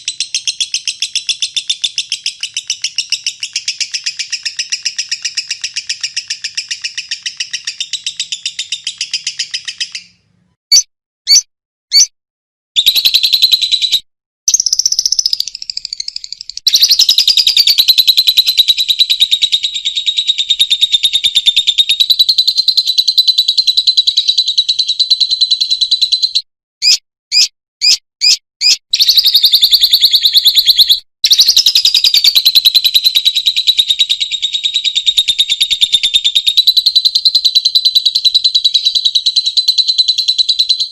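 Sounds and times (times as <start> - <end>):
short bird chirps: 0.0 - 12.1, 12.8 - 40.9
lovebird trilling chatter: 0.1 - 10.1, 10.7 - 12.1, 14.5 - 24.9, 25.9 - 40.8.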